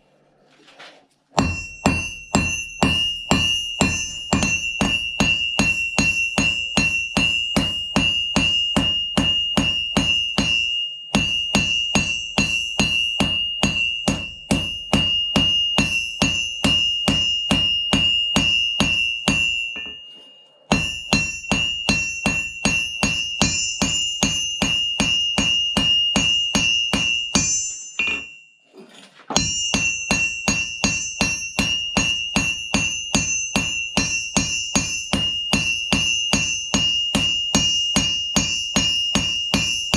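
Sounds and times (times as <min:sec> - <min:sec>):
hammer striking blade on anvil: 0:01.4 - 0:28.4, 0:29.3 - 0:39.9.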